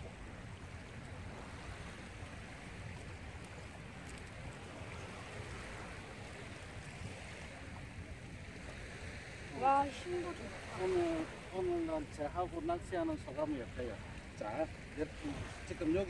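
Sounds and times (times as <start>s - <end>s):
small waves washing onto beach: 0.0s - 16.0s
wind on microphone: 0.0s - 16.0s.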